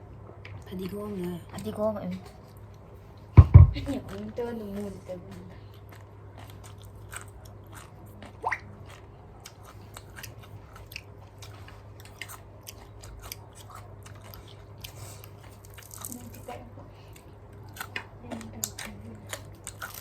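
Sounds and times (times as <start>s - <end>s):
crunchy chewing of cabbage: 3.9s - 20.0s.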